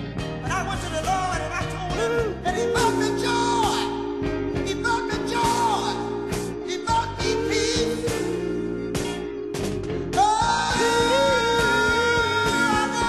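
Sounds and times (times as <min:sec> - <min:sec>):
backing band with steady beat: 0:00.0 - 0:13.0
person singing sliding notes: 0:01.0 - 0:13.0.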